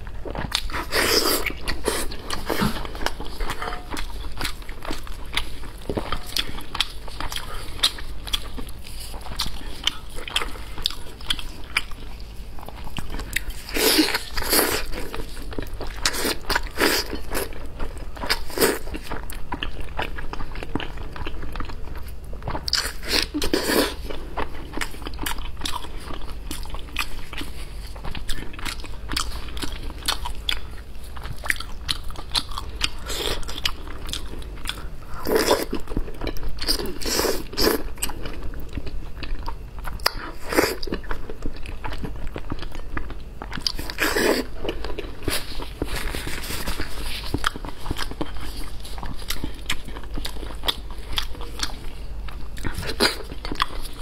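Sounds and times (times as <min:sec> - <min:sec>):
close-up chewing: 0:00.0 - 0:54.0.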